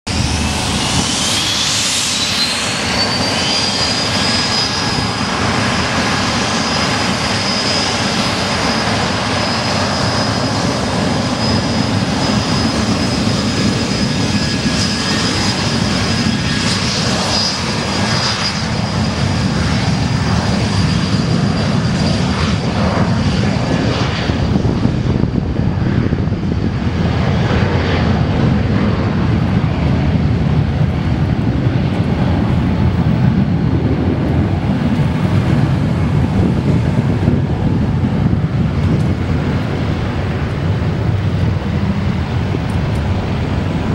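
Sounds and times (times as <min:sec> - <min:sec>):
loud jet rush: 0:00.0 - 0:43.9
jet engines whining: 0:00.1 - 0:43.9.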